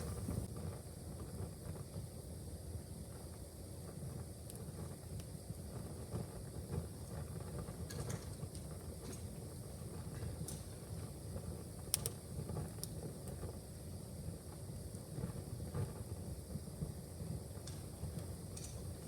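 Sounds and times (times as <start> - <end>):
wood fire crackling: 0.0 - 0.5, 3.9 - 19.0.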